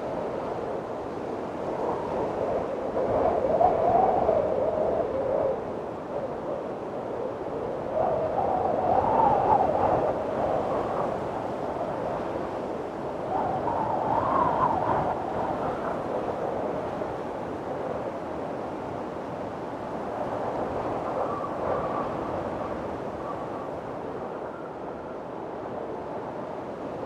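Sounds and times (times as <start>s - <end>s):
strong wind gusting: 0.0s - 27.0s.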